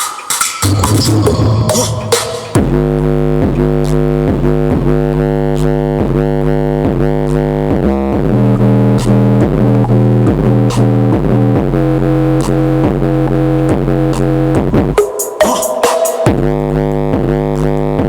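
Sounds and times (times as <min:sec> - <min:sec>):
electronic music synthesizer chords: 0:00.4 - 0:18.0.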